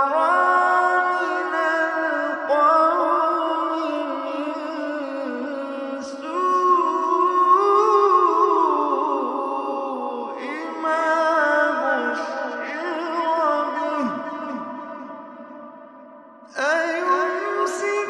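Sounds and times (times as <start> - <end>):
man chanting melodically: 0.0 - 15.8, 16.5 - 18.0.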